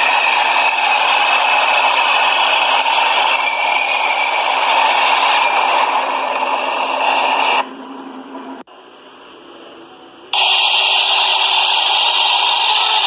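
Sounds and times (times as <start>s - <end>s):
train rushing: 0.0s - 8.7s, 9.3s - 13.0s.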